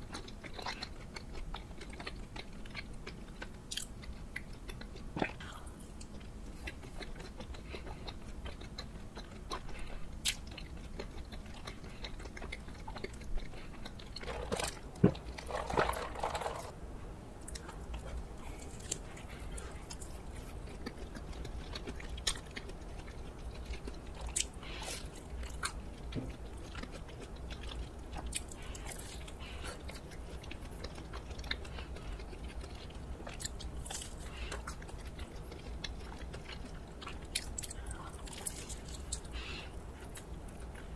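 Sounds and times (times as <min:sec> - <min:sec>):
biting and chewing crisp food: 0:00.0 - 0:16.8, 0:17.4 - 0:40.9.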